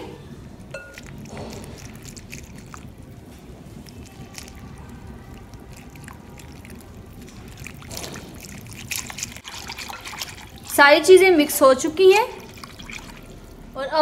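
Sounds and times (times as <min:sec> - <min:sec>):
milk trickling into a bowl: 0:00.7 - 0:13.8.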